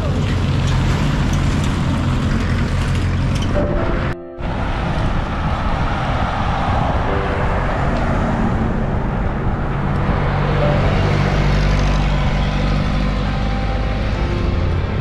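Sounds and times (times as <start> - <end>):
vehicle engine: 0.0 - 3.6, 4.4 - 15.0
road traffic rumble: 0.0 - 15.0.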